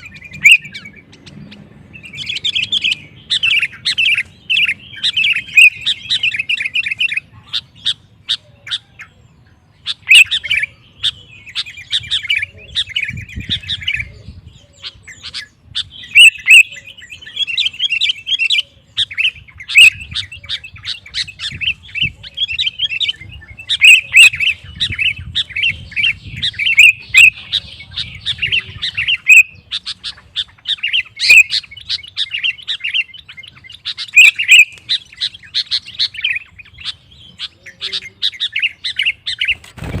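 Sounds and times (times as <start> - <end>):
bird singing: 0.0 - 40.0.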